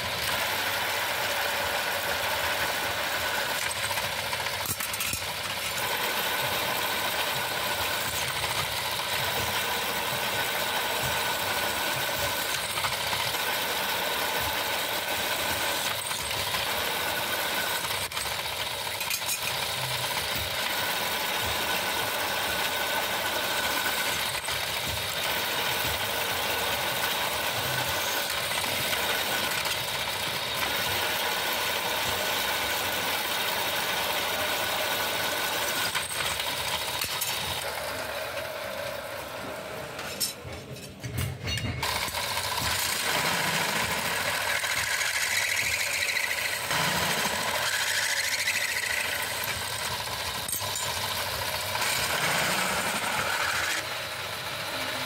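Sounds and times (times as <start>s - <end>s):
drill bit whining in metal: 0.0s - 40.3s, 41.5s - 55.0s
drill press motor hum: 0.0s - 55.0s.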